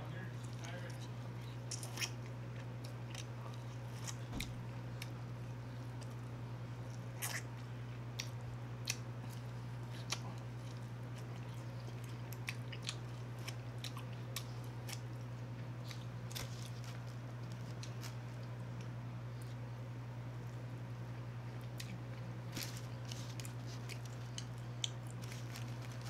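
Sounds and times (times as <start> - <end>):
steady low hum: 0.0 - 26.0
wet chewing: 0.4 - 19.7, 21.4 - 26.0.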